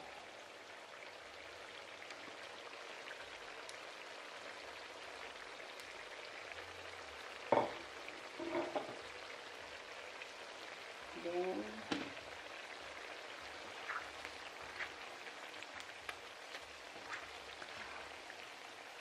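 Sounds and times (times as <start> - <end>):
oil sizzling in a pan: 0.0 - 19.0.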